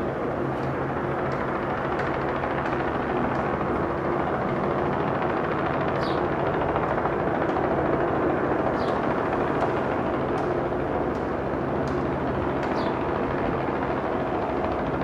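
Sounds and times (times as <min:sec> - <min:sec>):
constant rushing noise: 0:00.0 - 0:15.0
engine drone: 0:00.0 - 0:15.0.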